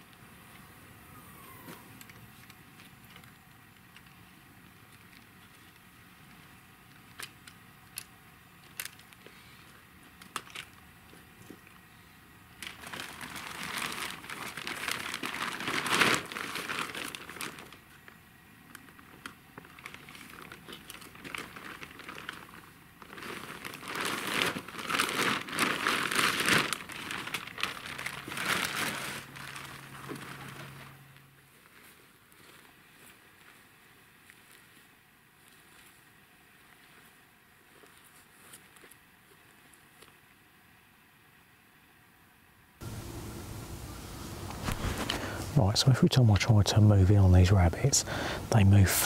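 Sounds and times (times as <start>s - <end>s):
crinkling and rustling of gear: 1.4s - 40.4s, 44.4s - 46.5s.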